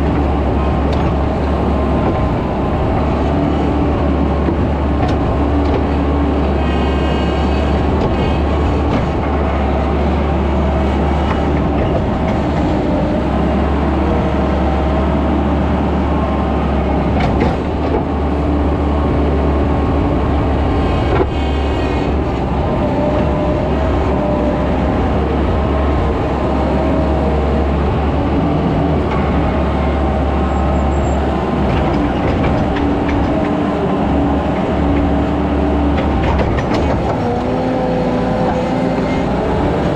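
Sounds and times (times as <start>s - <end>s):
skid steer engine droning: 0.0s - 39.9s.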